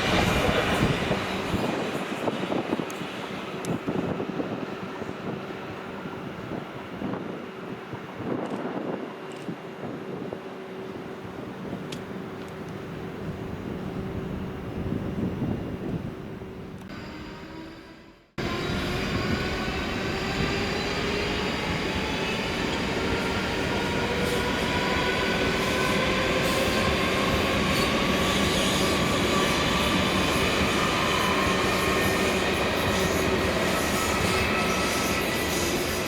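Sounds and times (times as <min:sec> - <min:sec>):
train wheels rushing on rails: 0:00.0 - 0:14.7, 0:18.4 - 0:36.0.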